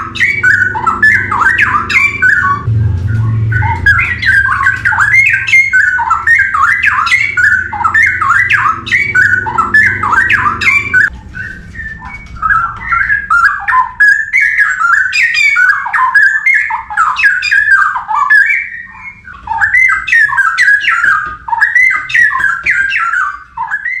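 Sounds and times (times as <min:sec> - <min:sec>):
bird singing warbled phrases: 0:00.0 - 0:24.0.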